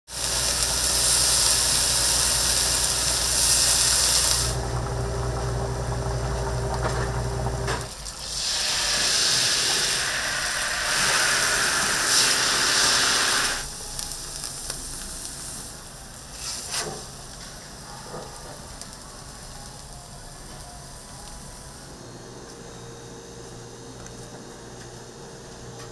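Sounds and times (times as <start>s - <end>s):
food sizzling on griddle: 0.1s - 21.9s.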